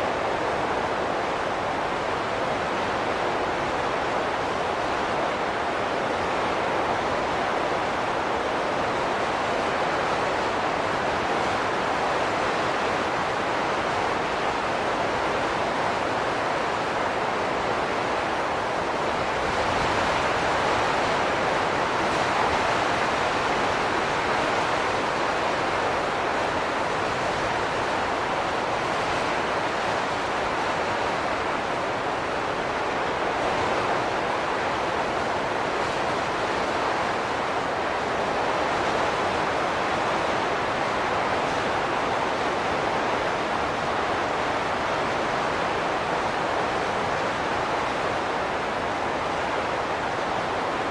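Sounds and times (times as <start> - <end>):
steady wind rush: 0.0 - 50.9.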